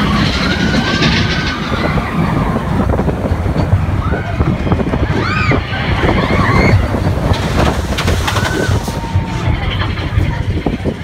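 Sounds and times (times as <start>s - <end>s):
roller coaster cars rumbling: 0.0s - 11.0s
wheels clattering over rails: 0.0s - 11.0s.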